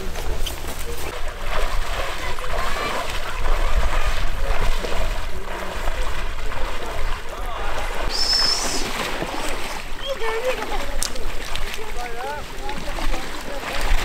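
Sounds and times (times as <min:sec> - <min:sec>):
water splashing from wading: 0:00.0 - 0:14.0.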